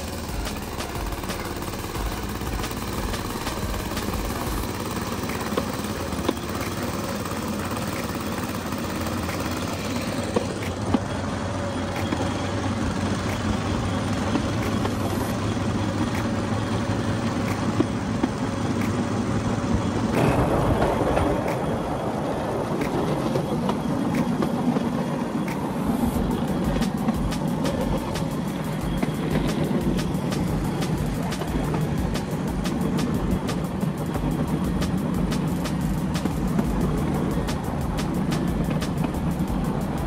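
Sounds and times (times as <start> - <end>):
small petrol engine running: 0.0 - 40.0
wheels clacking on track: 0.0 - 40.0.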